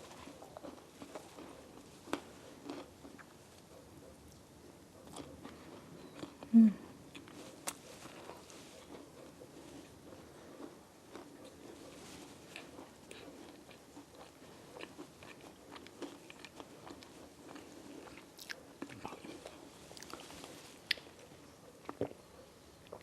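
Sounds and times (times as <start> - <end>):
person chewing a cookie: 0.0 - 23.0.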